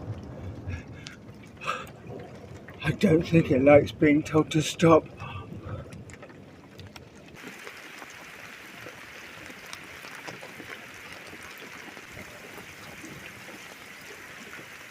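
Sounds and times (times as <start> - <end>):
heavy rain hissing: 0.0 - 2.2, 2.8 - 6.0, 7.4 - 14.9
rain drop ticks: 0.0 - 14.9.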